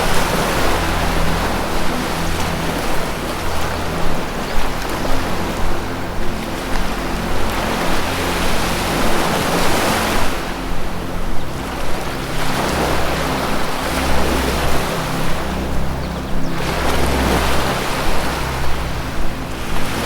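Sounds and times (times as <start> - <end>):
ocean waves washing ashore: 0.0 - 20.0
synthesized music tones: 0.0 - 20.0.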